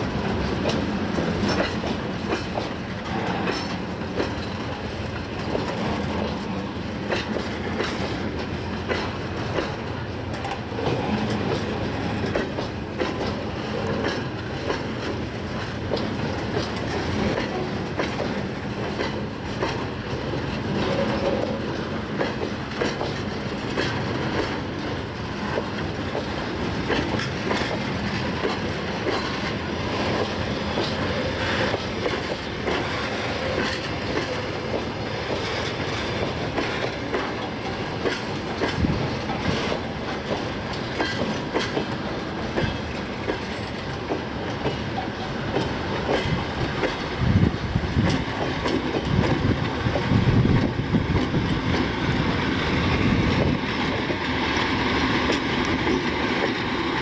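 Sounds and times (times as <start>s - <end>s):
diesel locomotive engine: 0.0s - 57.0s
wheels clattering over rail joints: 0.0s - 57.0s.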